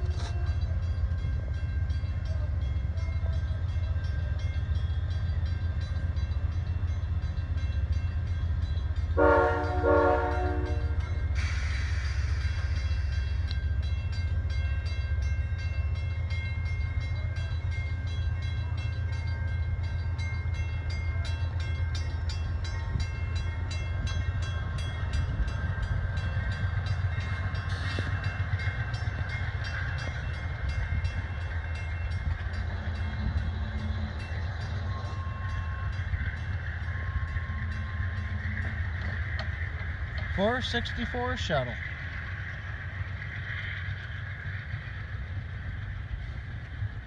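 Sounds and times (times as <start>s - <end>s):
crossing bell ringing rapidly: 0.0s - 46.4s
train wheels rumbling on rails: 0.0s - 47.0s.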